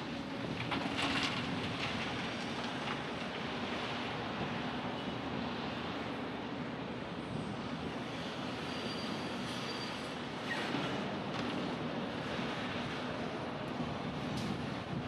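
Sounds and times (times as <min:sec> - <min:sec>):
roadworks: 0:00.0 - 0:15.0
street traffic rumble: 0:00.0 - 0:15.0.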